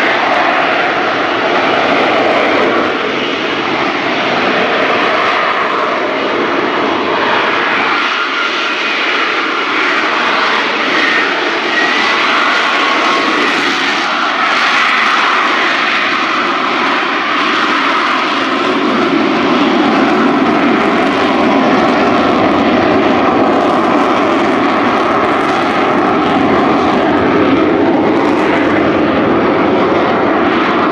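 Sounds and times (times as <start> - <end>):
jet engine roaring with whine: 0.0 - 30.9.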